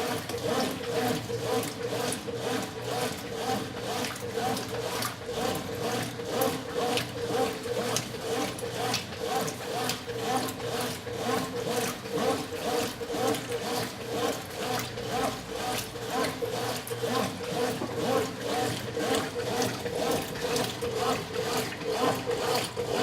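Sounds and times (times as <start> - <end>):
washing machine motor humming: 0.1 - 23.0.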